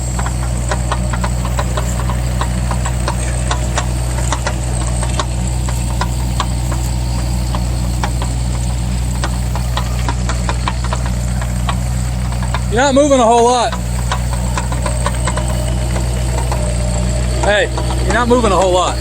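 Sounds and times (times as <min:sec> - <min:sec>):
excavator engine running: 0:00.0 - 0:19.0
short clicks and rattles: 0:00.0 - 0:19.0.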